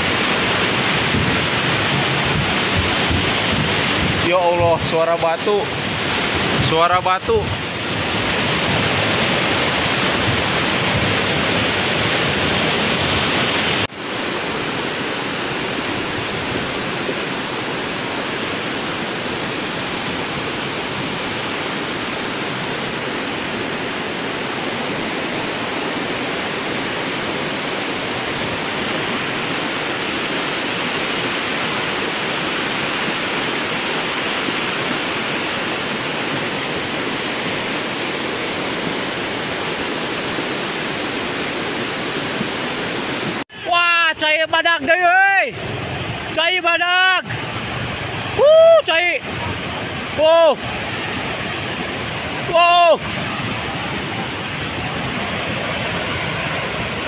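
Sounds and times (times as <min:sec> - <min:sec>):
muddy water rushing: 0:00.0 - 0:57.0.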